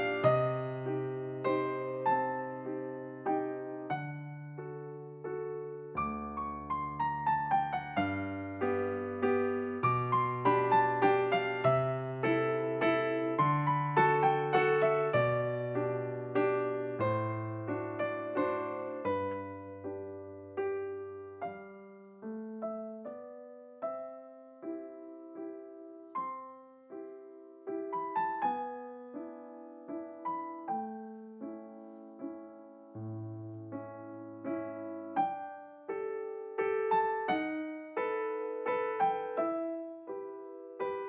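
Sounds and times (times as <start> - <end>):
gentle solo piano music: 0.0 - 41.0.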